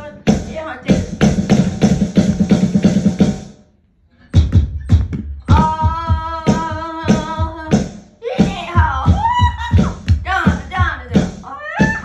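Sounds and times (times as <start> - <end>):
music with bass-heavy drums: 0.0 - 3.6, 4.3 - 12.0.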